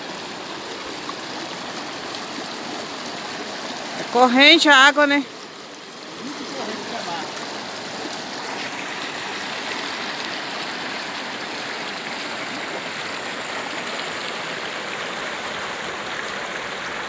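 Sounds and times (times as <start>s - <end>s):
river rapids rushing over rocks: 0.0s - 17.0s.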